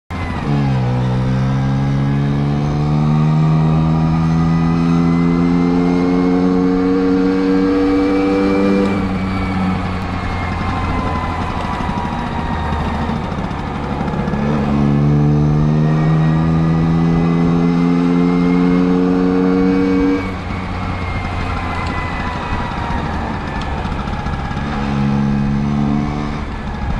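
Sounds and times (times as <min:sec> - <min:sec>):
scooter engine accelerating: 0:00.1 - 0:26.9.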